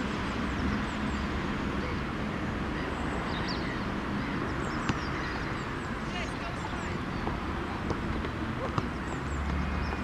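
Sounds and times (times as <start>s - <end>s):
small birds chirping: 0.3s - 10.0s.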